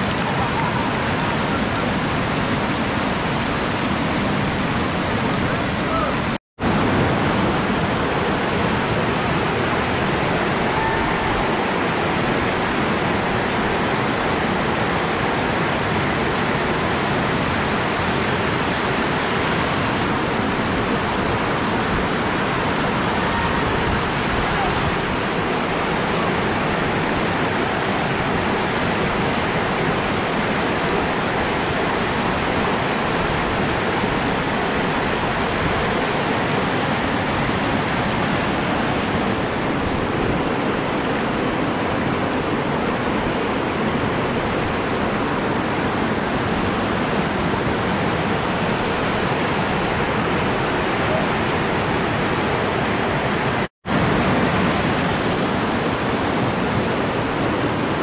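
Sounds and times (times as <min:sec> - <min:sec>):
river rapids rushing: 0:00.0 - 0:58.0.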